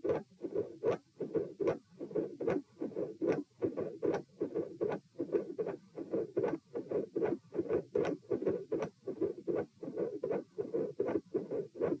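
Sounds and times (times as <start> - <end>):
heartbeat through stethoscope: 0.0 - 12.0.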